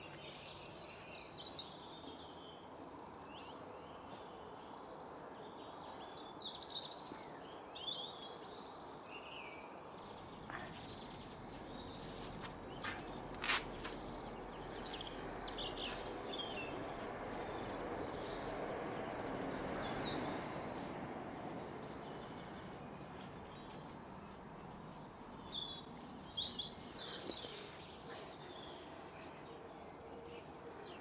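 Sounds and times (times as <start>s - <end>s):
outdoor background noise: 0.0s - 31.0s
small birds chirping: 0.0s - 31.0s.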